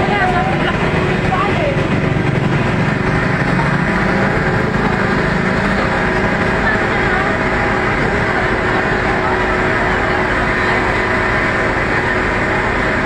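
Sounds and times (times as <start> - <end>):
faint crowd voices: 0.0 - 13.0
motor engine humming: 0.0 - 13.0.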